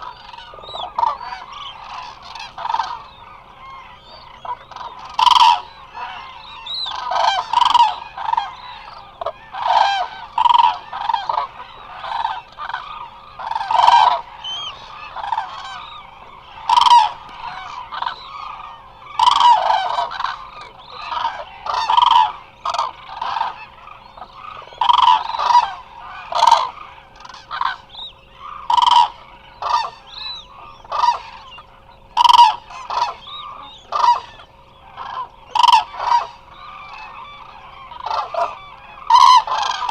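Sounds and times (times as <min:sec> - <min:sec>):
cranes trumpeting calls: 0:00.0 - 0:39.9
faint steady hum: 0:00.0 - 0:39.9.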